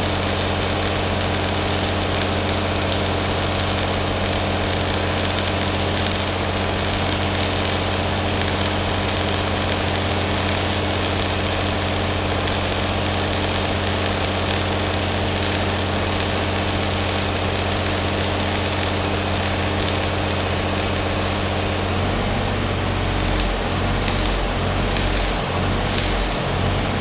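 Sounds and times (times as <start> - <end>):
welding arc hissing and crackling: 0.0 - 27.0
welding machine hum: 0.0 - 27.0.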